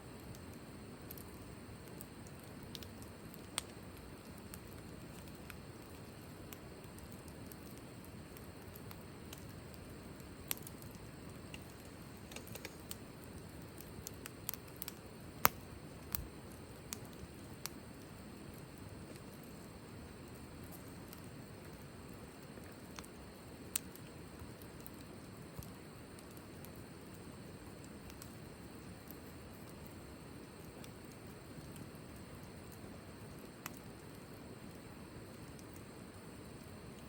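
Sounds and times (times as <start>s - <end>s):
campfire crackles and pops: 0.0s - 37.0s.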